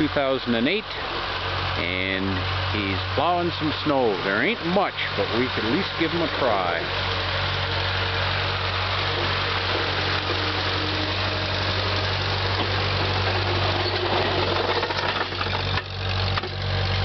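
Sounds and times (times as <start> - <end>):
tractor engine plowing snow: 0.0 - 17.0.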